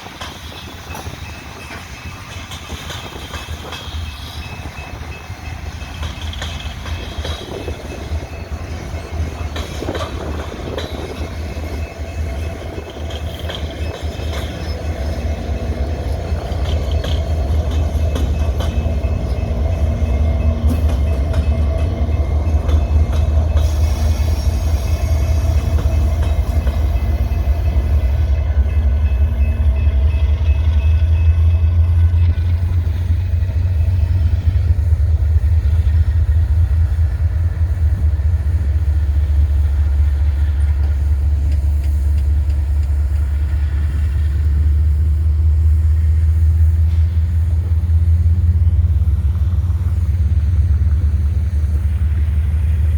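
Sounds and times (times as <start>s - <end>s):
train rolling past: 0.0s - 52.9s.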